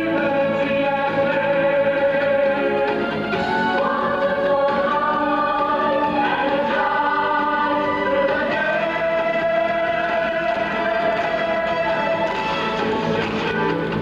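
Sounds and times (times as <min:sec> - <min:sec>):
cast singing together: 0:00.0 - 0:12.8
band accompaniment: 0:00.0 - 0:14.0.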